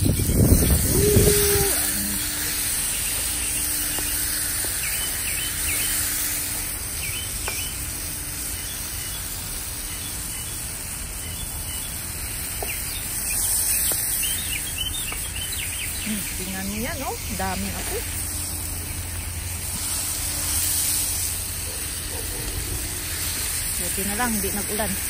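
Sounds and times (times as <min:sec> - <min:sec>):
chicken sizzling in hot oil: 0:00.0 - 0:25.0
small birds chirping: 0:00.0 - 0:25.0.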